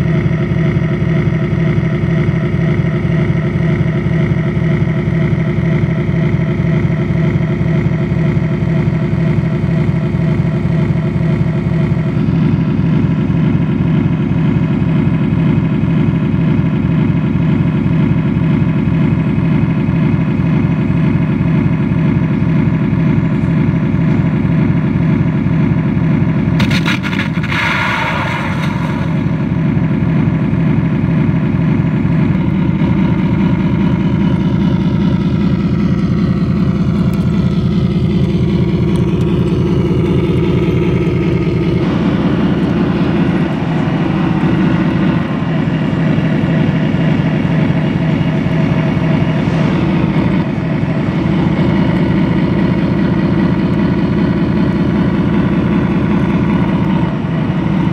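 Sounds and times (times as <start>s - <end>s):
simulated tank engine running: 0.0s - 57.9s.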